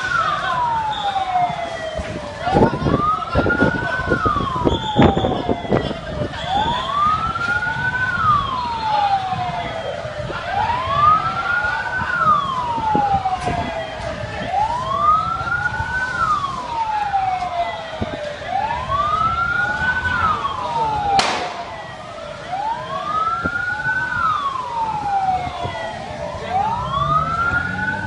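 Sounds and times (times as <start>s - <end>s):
emergency siren wailing: 0.0s - 28.0s.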